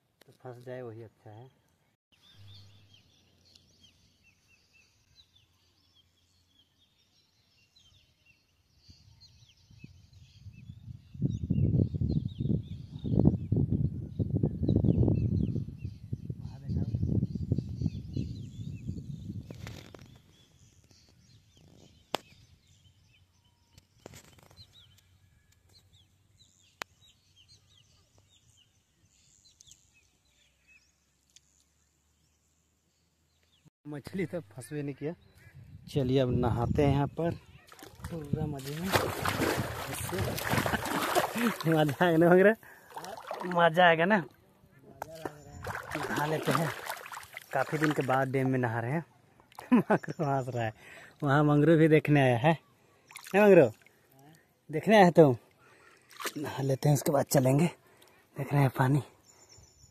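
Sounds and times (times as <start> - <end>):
small birds chirping: 0.2 - 59.9.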